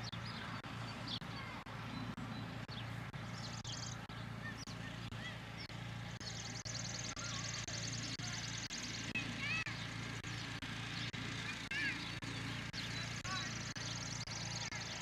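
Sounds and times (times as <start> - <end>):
lawnmower engine humming: 0.0 - 15.0.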